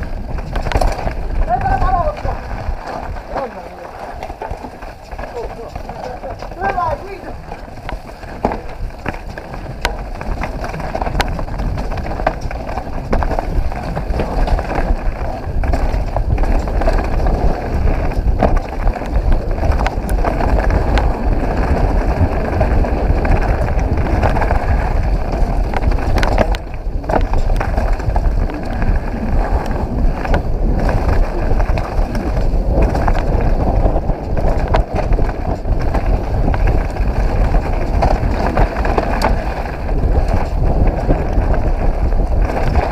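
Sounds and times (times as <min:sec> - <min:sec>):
bike clattering over bumps: 0:00.0 - 0:42.9
tyres rolling over dirt and leaves: 0:00.0 - 0:42.9
wind buffeting microphone: 0:00.0 - 0:42.9.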